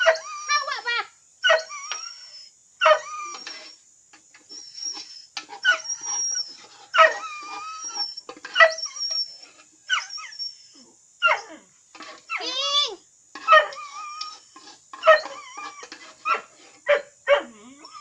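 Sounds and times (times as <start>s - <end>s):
dogs whining: 0.0s - 0.8s, 1.4s - 3.8s, 4.4s - 11.6s, 13.4s - 18.0s.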